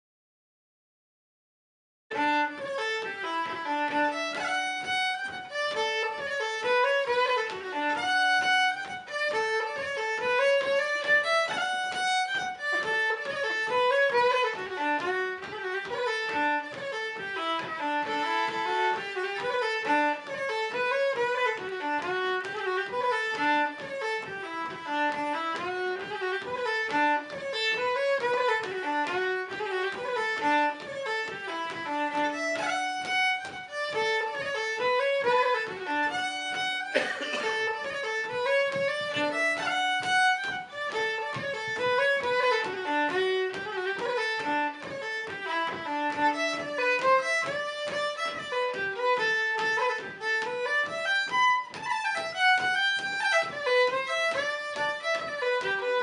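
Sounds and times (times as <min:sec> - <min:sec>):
solo fiddle polka: 0:02.1 - 0:56.0.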